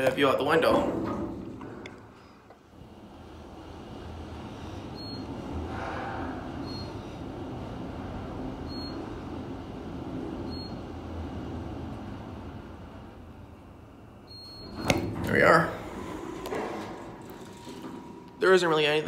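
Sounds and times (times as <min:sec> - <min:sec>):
elevator car rumbling: 0:00.0 - 0:19.0.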